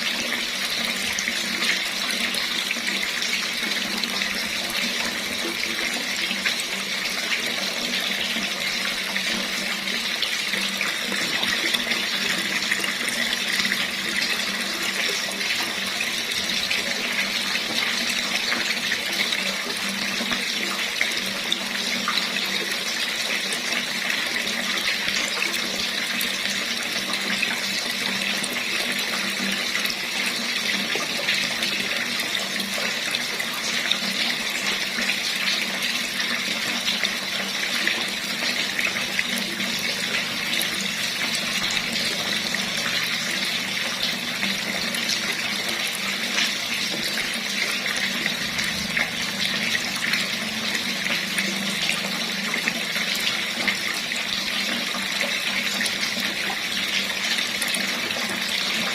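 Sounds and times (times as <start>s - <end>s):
water running from a tap: 0.0s - 58.9s.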